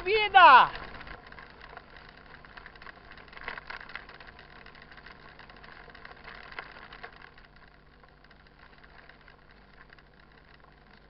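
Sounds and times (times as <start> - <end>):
bike riding hum: 0.0 - 11.0
small rattles: 0.0 - 11.0
tyres crunching on gravel: 0.0 - 11.0.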